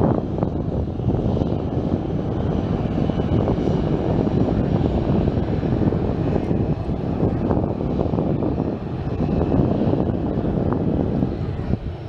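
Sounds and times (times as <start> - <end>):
faint high engine whine: 0.0 - 12.0
jet engines rumbling at taxi power: 0.0 - 12.0.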